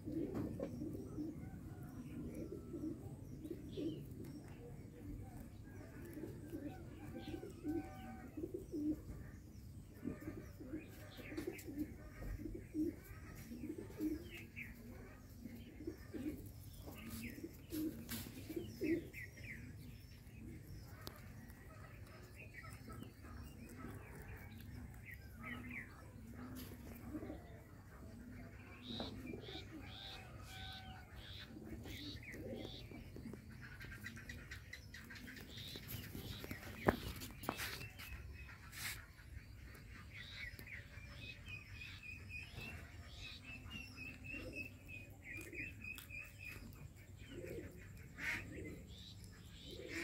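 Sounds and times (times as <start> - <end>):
birds chirping and trilling: 0.0 - 50.0
soft low bird calls: 0.0 - 50.0.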